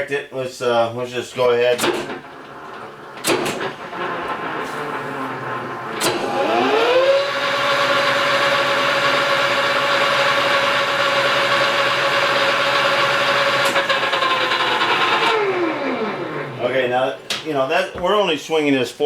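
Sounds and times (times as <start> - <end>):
lathe whining: 1.4 - 17.5.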